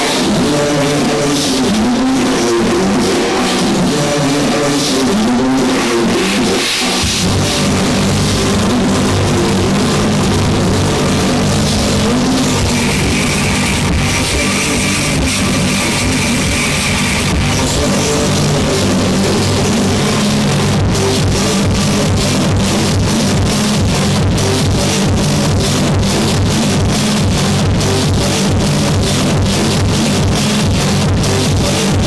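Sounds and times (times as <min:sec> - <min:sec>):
heavy bass: 0:00.0 - 0:32.0
loud rock music through speakers: 0:00.0 - 0:32.0.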